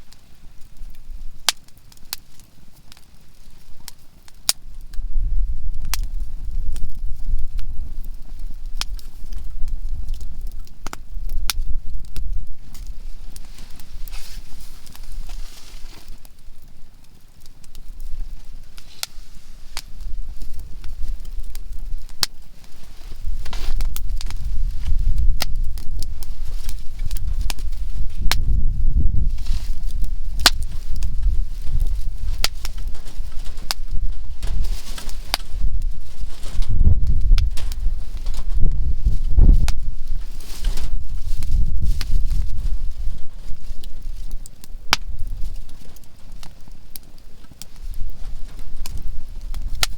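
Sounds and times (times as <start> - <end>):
campfire crackling: 0.0 - 49.9
sharp pops from burning logs: 0.0 - 49.9.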